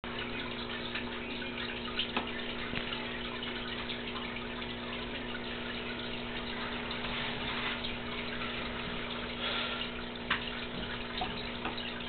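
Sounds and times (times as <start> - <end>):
low electrical hum: 0.0 - 12.0
water trickling and bubbling: 0.0 - 12.0.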